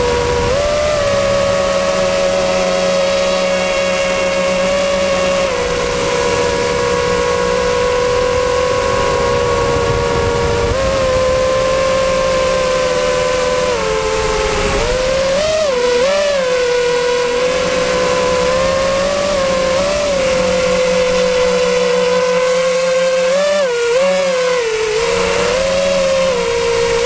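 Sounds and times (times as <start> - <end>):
drone motors and propellers whining: 0.0 - 27.0.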